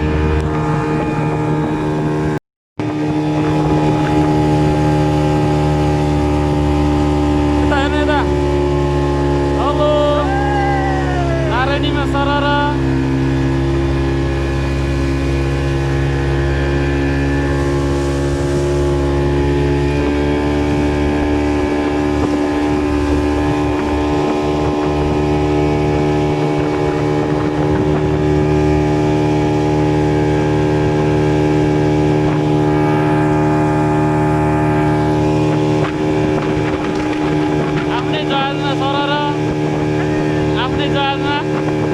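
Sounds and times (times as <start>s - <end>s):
boat motor droning: 0.0s - 41.9s.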